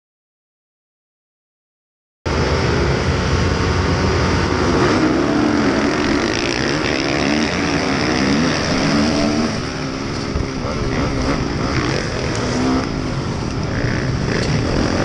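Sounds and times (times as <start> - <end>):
motocross bike engine accelerating: 2.3 - 15.0
other motocross bikes: 2.3 - 15.0.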